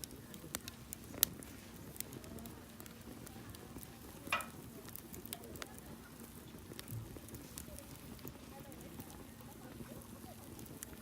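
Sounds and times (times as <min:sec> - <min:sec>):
fire popping and snapping: 0:00.0 - 0:11.0
wood campfire crackling: 0:00.0 - 0:11.0.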